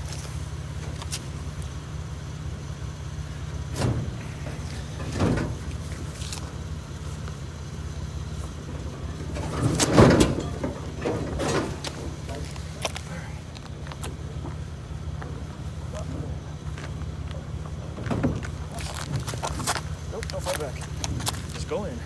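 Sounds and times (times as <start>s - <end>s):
low engine hum: 0.0s - 22.0s
appliance knocking and scraping: 3.2s - 22.0s.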